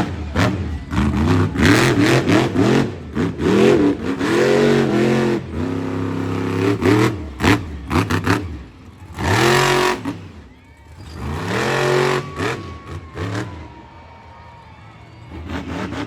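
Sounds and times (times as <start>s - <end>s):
truck engine revving hard: 0.0s - 14.3s, 15.1s - 16.0s.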